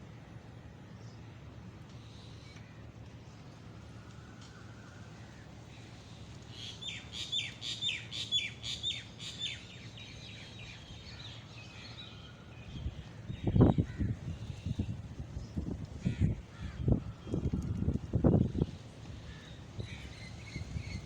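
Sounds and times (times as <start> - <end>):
songbird singing: 3.3 - 15.7, 16.3 - 21.0.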